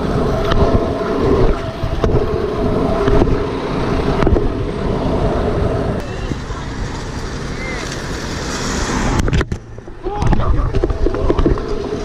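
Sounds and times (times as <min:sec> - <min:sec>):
scooter wheels rolling on asphalt: 0:00.0 - 0:12.0
wind on microphone: 0:00.0 - 0:12.0.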